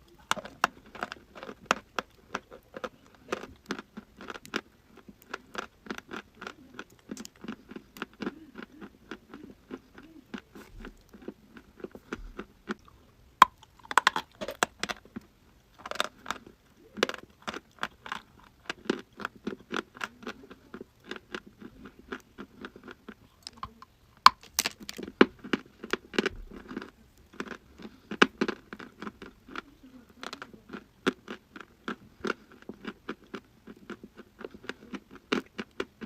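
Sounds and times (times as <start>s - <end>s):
chalk being chewed crunching: 0.1s - 15.2s, 15.8s - 36.0s.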